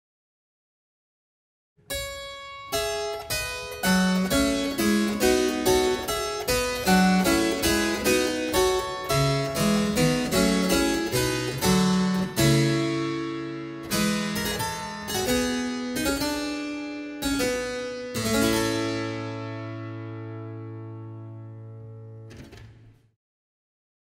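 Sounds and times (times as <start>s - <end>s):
harpsichord playing: 2.0s - 22.0s.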